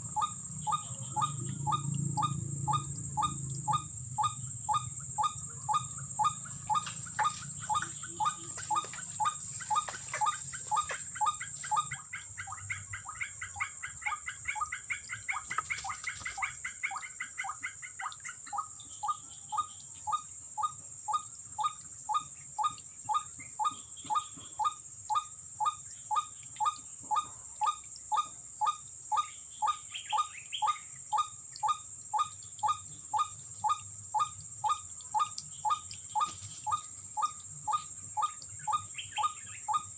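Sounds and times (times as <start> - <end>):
high insect drone: 0.0 - 12.6, 18.0 - 39.9
waterhen calling: 0.0 - 24.3, 25.2 - 39.9.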